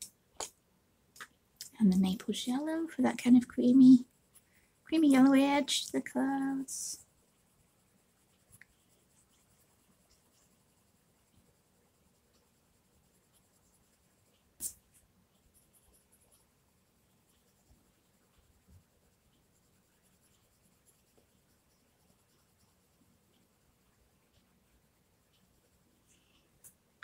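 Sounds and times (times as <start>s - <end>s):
pencil shading on paper: 2.0s - 26.7s.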